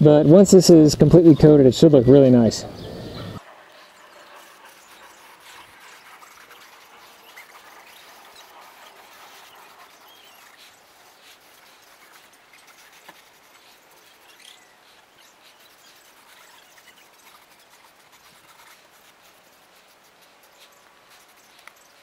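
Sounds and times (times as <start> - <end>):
small ticks: 3.7 - 22.0.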